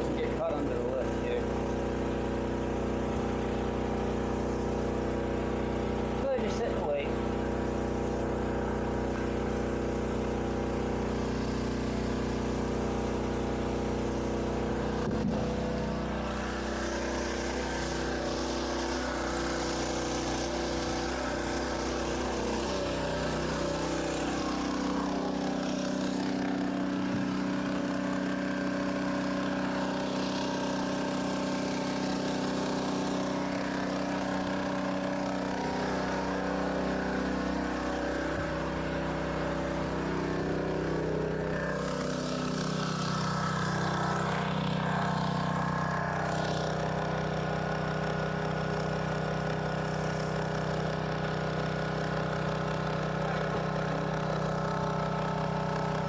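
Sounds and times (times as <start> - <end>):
motor running: 0.0 - 56.0.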